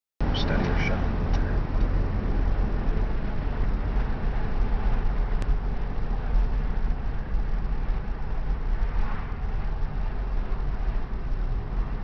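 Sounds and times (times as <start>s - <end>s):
car road noise from inside: 0.2s - 12.0s.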